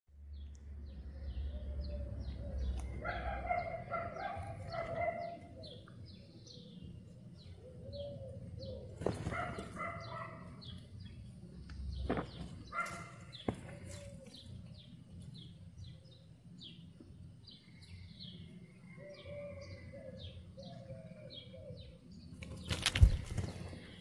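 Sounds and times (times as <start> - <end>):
birds chirping: 0.2 - 24.0.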